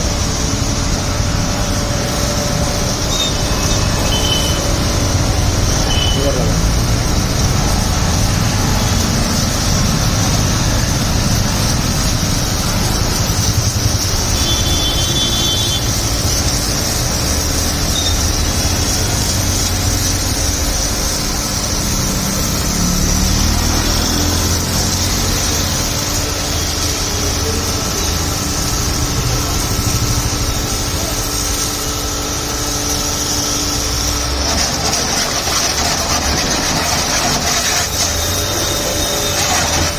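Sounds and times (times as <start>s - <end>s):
pressure washer pump running: 0.0s - 39.9s.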